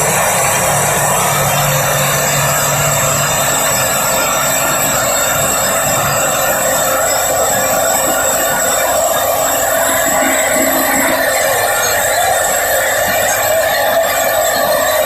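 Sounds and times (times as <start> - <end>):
hydraulic rock drill drilling: 0.0 - 15.0.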